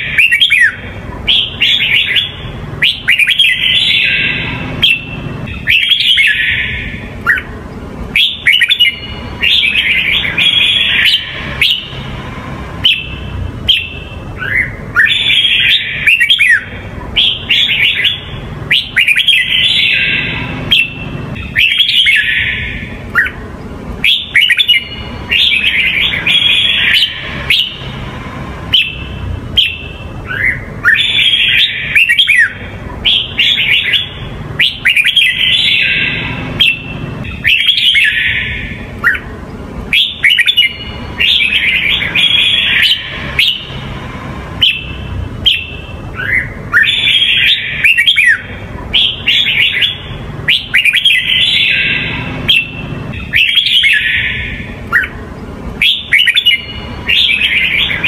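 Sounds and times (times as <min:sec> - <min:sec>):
bird warbling song: 0:00.0 - 0:58.0
low background hum: 0:00.0 - 0:58.0.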